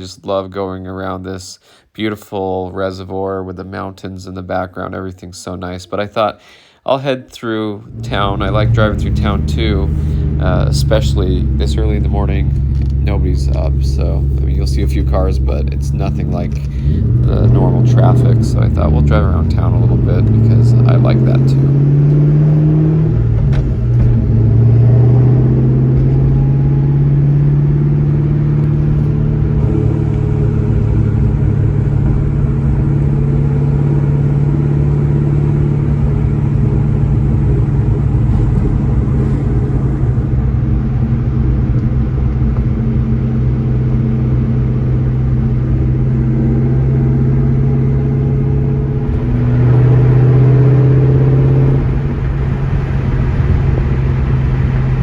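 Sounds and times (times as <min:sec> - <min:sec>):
car engine cruising: 0:07.4 - 0:55.0.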